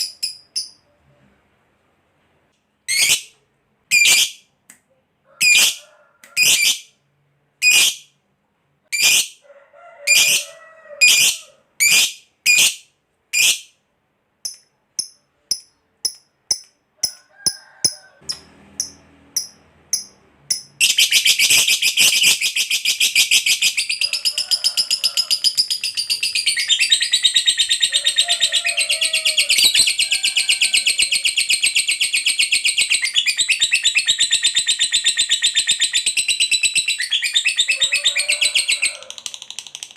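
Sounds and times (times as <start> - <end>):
lovebird calling and trilling: 2.9 - 4.4, 6.4 - 6.9, 7.6 - 8.1, 8.9 - 9.4, 10.1 - 13.7, 14.4 - 39.9.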